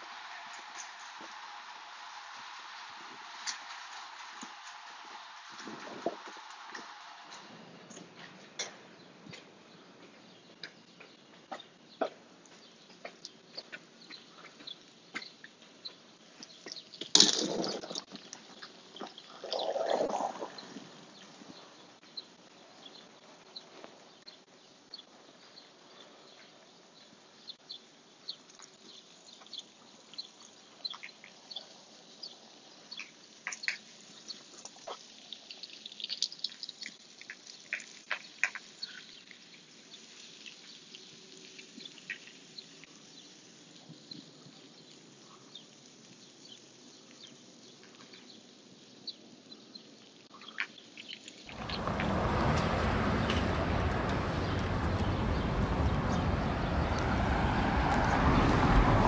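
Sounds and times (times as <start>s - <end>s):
outdoor background noise: 0.0s - 59.0s
small birds chirping: 3.4s - 59.0s.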